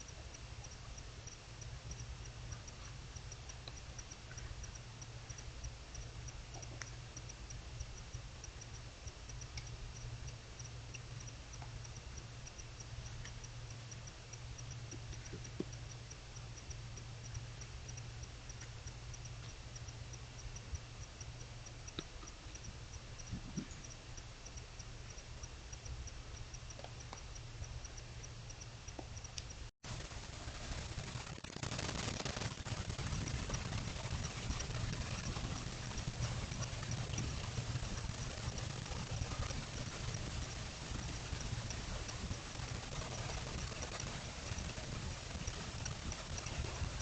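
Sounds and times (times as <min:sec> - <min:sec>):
insect chirping: 0:00.0 - 0:30.1, 0:30.7 - 0:47.0
steady low hum: 0:00.0 - 0:47.0.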